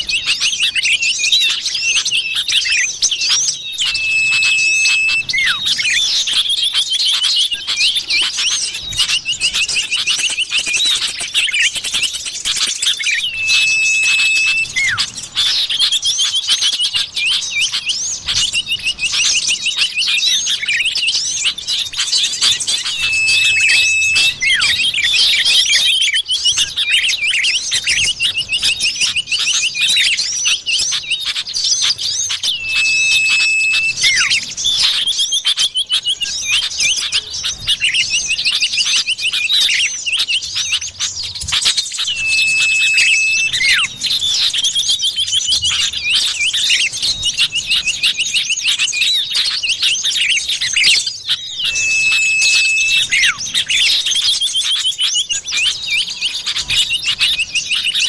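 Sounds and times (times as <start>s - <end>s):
long steady bird whistle: 0.0s - 58.0s
rapid high bird chirping: 0.0s - 58.0s.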